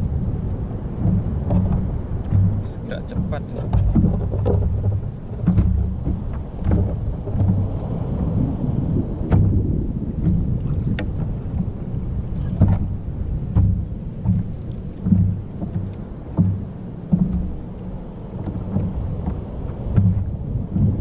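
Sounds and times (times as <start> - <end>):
water slapping against boat hull: 0.0 - 21.0.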